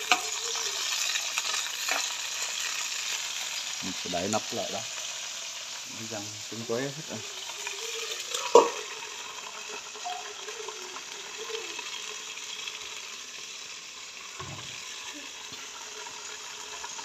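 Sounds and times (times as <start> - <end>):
sizzling in a frying pan: 0.0 - 17.0.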